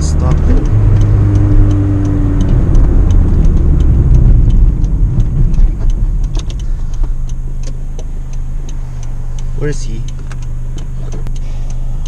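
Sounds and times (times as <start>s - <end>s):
car engine with broken exhaust: 0.0s - 12.0s
light regular ticking: 0.0s - 12.0s.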